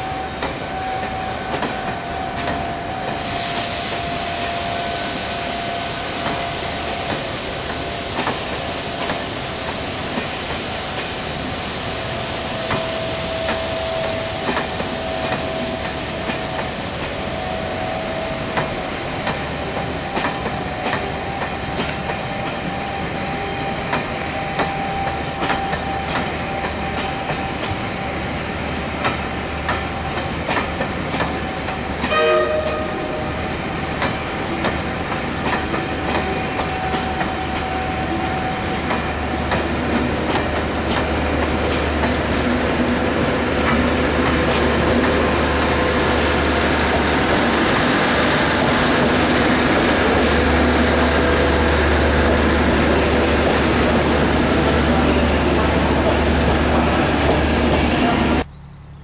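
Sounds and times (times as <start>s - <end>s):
train wheels clicking over rail joints: 0.3s - 4.7s, 5.7s - 11.6s, 12.6s - 17.3s, 17.9s - 22.8s, 23.8s - 32.9s, 33.9s - 58.9s.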